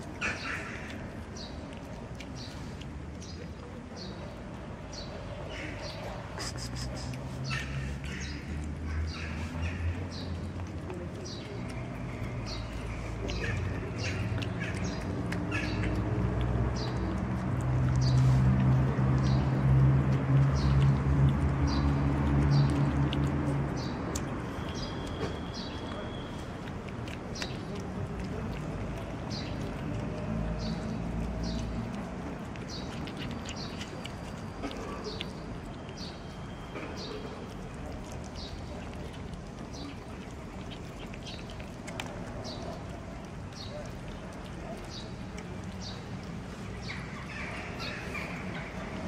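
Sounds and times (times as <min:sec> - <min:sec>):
cats chewing wet food: 0:00.0 - 0:49.0
small birds chirping: 0:00.0 - 0:49.0.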